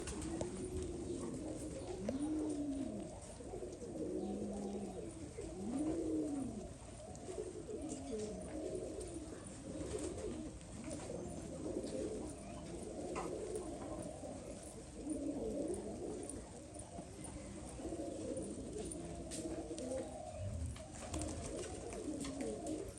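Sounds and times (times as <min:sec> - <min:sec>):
pigeons cooing: 0:00.0 - 0:22.9.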